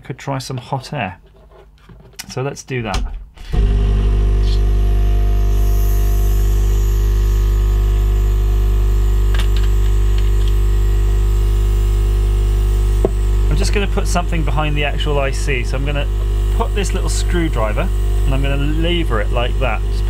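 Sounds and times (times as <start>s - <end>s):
hot air gun fan humming: 3.5s - 20.0s.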